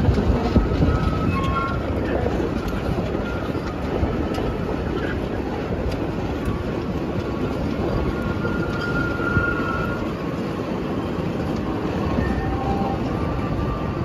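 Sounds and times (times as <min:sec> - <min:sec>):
train wheels rumbling on rail: 0:00.0 - 0:14.0
wheel squeals: 0:00.0 - 0:14.0.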